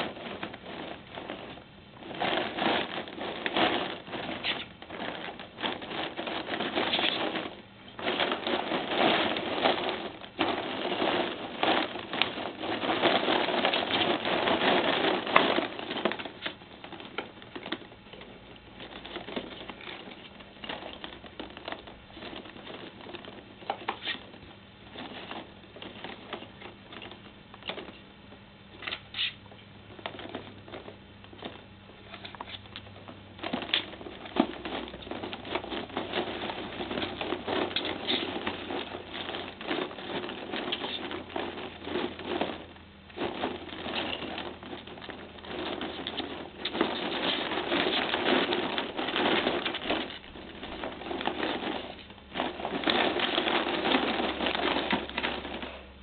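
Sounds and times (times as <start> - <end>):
ping pong balls rattling: 0.0 - 56.0.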